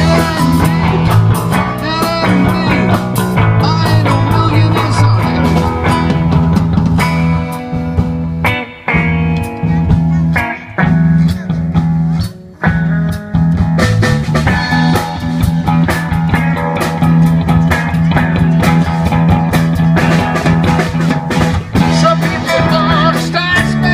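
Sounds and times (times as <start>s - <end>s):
regular drum beat: 0.0s - 23.9s
rock music with guitar: 0.0s - 23.9s
steady bass line: 0.0s - 23.9s.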